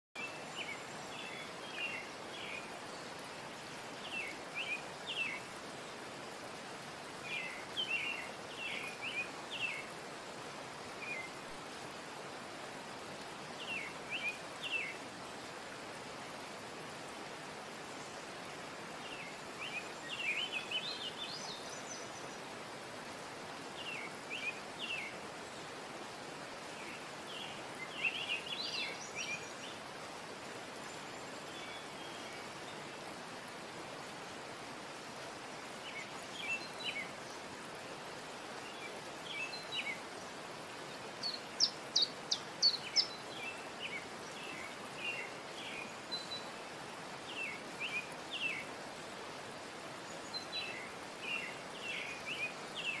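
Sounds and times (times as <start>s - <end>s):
steady hiss: 0.2s - 53.0s.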